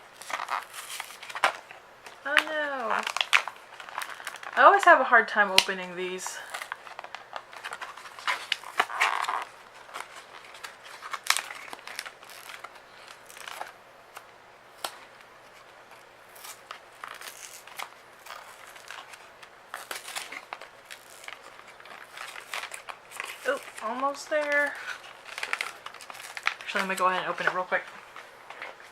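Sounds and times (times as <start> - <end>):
plastic packaging crinkling and tearing: 0.0 - 28.9.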